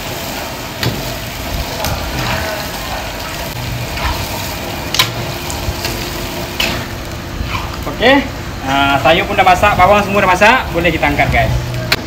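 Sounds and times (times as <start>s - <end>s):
food sizzling in a wok: 0.0s - 12.0s
gas burner rushing: 0.0s - 12.0s.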